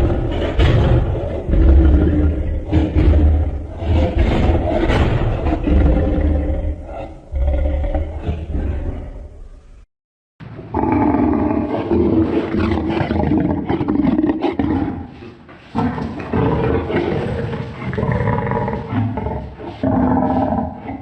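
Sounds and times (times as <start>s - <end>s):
deep lion roars: 0.0s - 9.4s, 10.7s - 21.0s.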